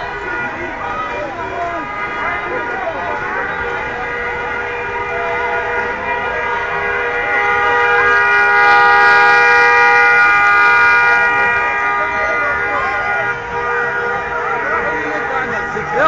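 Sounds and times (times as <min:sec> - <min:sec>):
car horns blaring: 0:00.0 - 0:16.0
crowd voices: 0:00.0 - 0:16.0.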